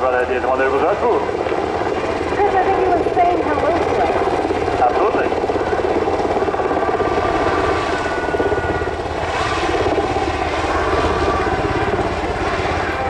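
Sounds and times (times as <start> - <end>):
faint turbine whine: 0.0 - 13.0
helicopter blades chopping: 0.0 - 13.0.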